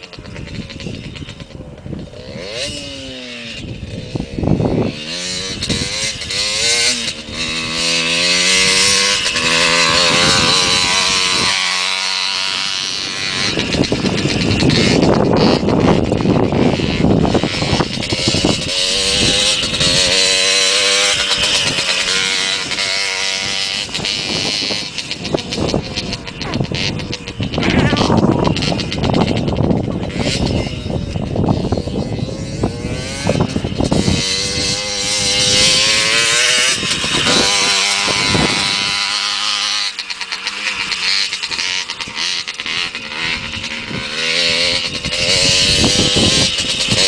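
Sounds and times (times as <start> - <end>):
motorbike engine revving: 0.0 - 47.0.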